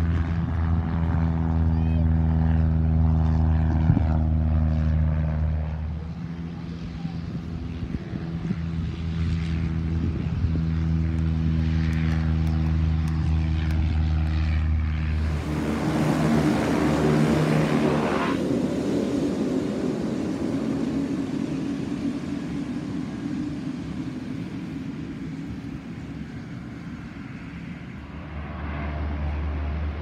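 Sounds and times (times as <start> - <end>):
aircraft powering up on runway: 0.0 - 30.0
propeller aircraft engine drone: 0.0 - 30.0.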